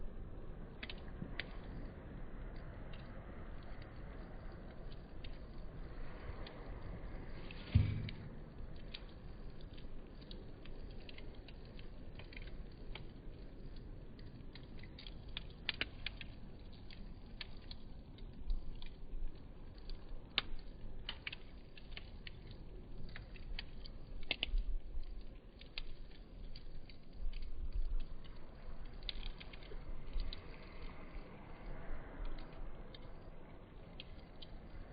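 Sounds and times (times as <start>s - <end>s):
campfire crackling and popping: 0.0s - 34.9s
low rumble of fire: 0.0s - 34.9s.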